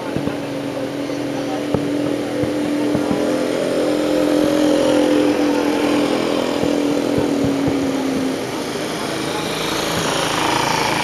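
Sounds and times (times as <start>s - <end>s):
distant fireworks popping: 0.0s - 11.0s
mechanical drone: 0.0s - 11.0s.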